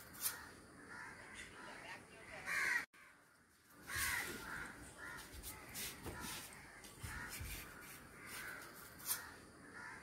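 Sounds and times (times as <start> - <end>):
crows cawing: 0.2 - 3.2, 3.8 - 10.0.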